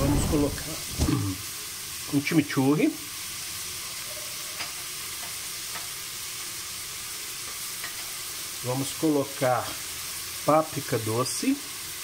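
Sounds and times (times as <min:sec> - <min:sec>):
vegetables sizzling in fat: 0:00.0 - 0:12.0.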